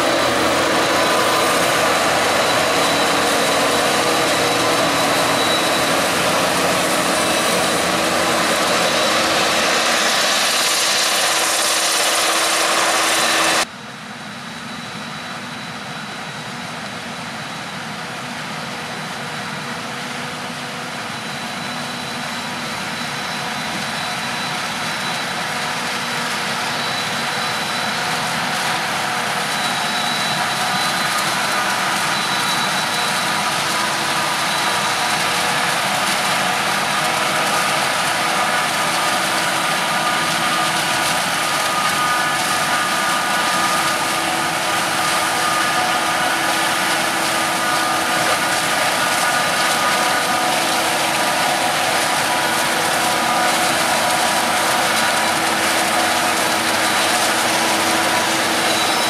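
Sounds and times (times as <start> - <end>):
tractor engines running: 0.0 - 13.7, 14.9 - 59.0.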